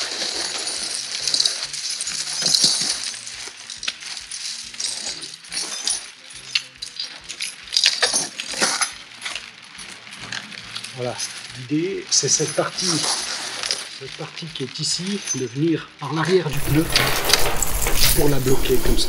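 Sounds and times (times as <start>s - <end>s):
snow chains clinking and rattling: 0.0s - 15.7s, 16.5s - 19.0s.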